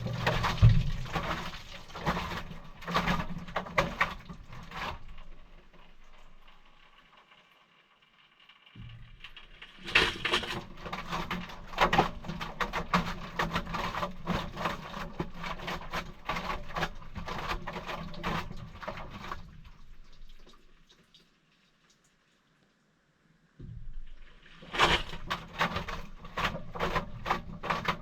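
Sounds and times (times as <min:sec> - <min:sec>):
water sloshing in washing machine: 0:00.0 - 0:07.0, 0:08.8 - 0:21.4, 0:23.6 - 0:28.0.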